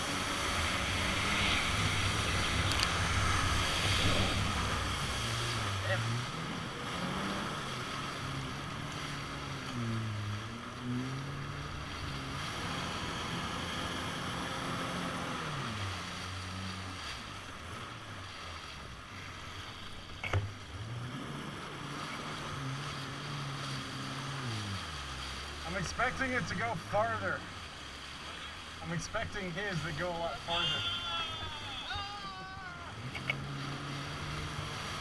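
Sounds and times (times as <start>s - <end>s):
jet ski engine revving: 0.0s - 35.0s.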